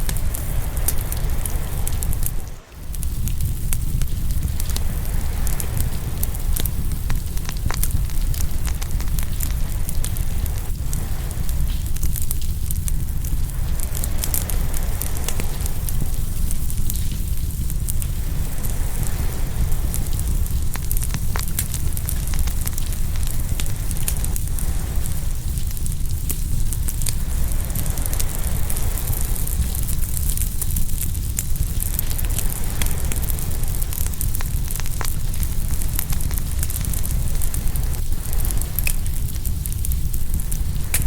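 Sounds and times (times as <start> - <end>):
ocean surf washing: 0.0 - 3.6, 4.4 - 11.7, 13.1 - 26.1, 27.0 - 39.5
wood fire crackling and popping: 0.0 - 41.0.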